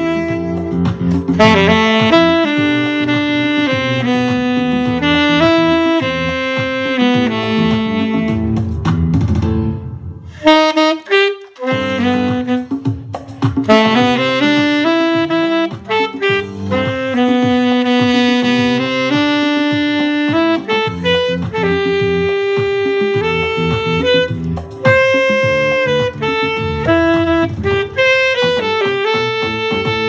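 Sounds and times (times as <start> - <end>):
alto saxophone jazz melody: 0.0 - 9.2, 10.3 - 30.0.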